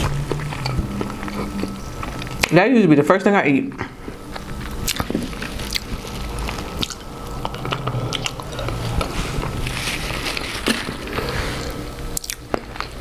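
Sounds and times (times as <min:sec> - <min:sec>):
close chewing and mouth sounds: 0:00.0 - 0:02.6, 0:03.7 - 0:13.0.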